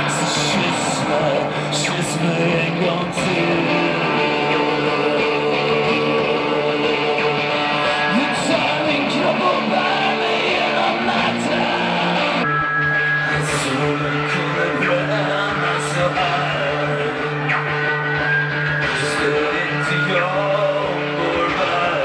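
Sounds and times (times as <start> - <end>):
electric guitar: 0.0 - 22.0
live rock band playing: 0.0 - 22.0.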